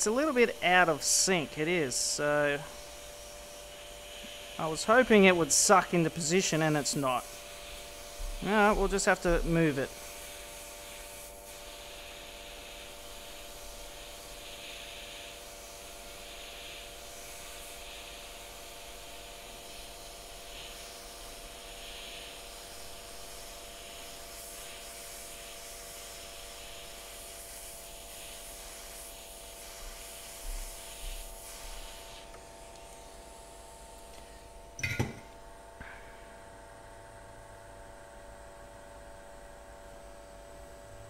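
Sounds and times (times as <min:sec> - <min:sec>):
hot air gun hissing: 0:00.0 - 0:33.2.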